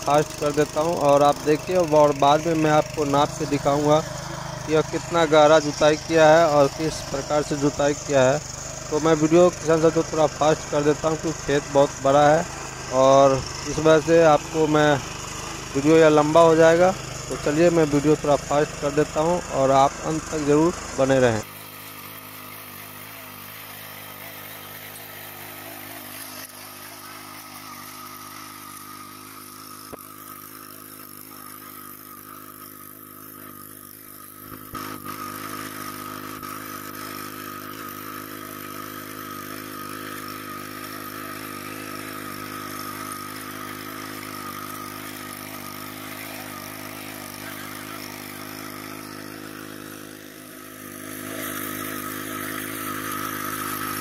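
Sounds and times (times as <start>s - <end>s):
power tiller engine running: 0.0s - 54.0s.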